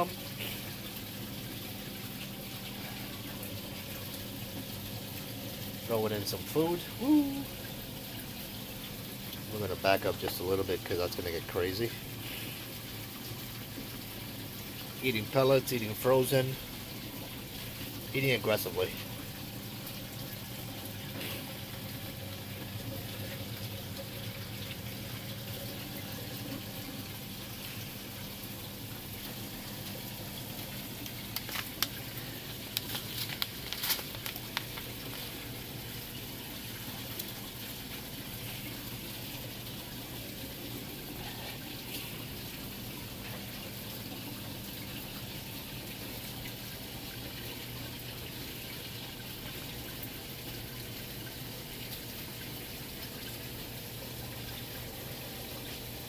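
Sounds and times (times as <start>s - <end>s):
low pump hum: 0.0s - 56.0s
water running and splashing: 0.0s - 56.0s.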